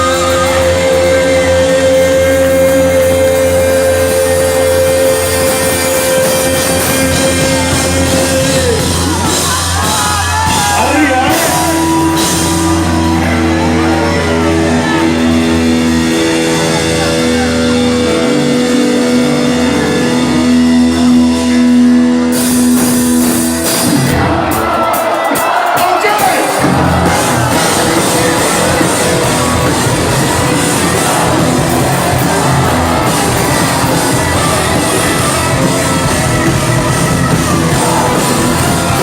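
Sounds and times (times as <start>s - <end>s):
person singing or shouting: 0.0s - 21.4s, 24.3s - 39.0s
rock band playing: 0.0s - 39.0s.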